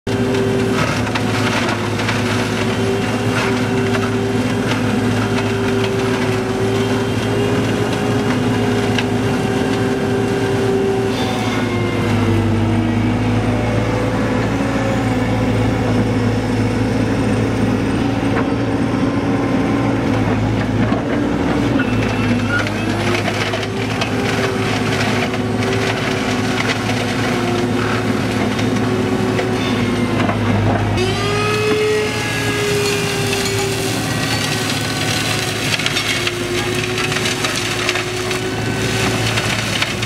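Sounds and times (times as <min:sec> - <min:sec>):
mulching head whining: 0:00.1 - 0:40.0.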